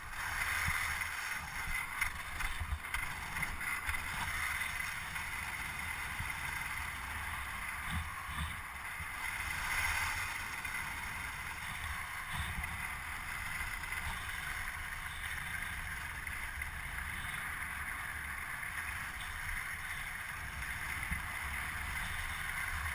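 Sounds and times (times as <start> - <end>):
kite skis scraping over ice: 0.0 - 22.9
wind rumble on microphone: 0.0 - 22.9.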